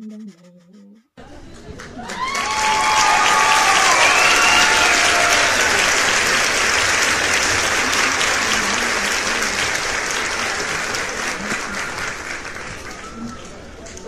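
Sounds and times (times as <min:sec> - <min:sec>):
crowd applauding: 0:01.4 - 0:14.0.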